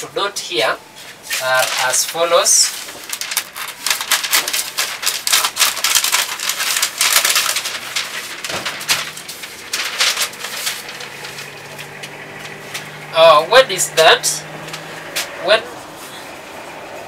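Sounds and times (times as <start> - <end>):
large paper sheet rustling: 1.0 - 17.0.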